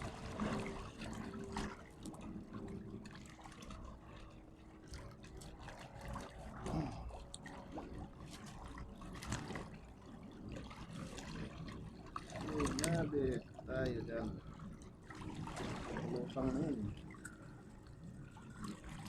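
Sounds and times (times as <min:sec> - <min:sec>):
water trickling and splashing: 0:00.0 - 0:19.0.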